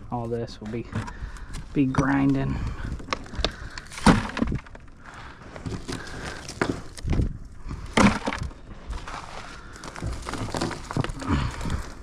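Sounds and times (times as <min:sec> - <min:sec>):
bricks knocking and clattering: 0:00.6 - 0:12.0.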